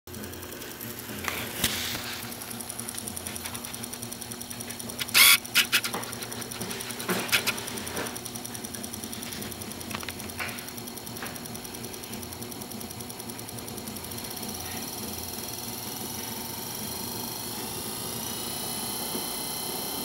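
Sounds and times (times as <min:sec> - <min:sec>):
electric motor humming: 0:00.1 - 0:20.0.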